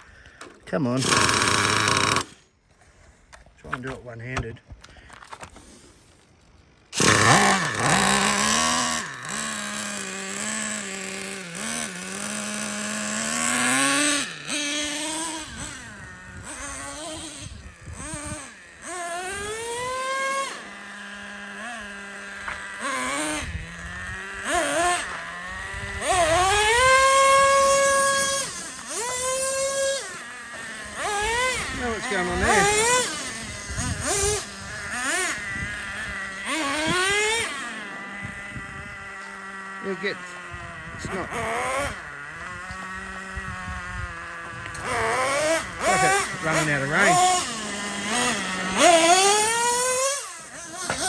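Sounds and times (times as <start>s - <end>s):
small two-stroke engine revving: 0.8s - 2.6s, 6.8s - 51.0s.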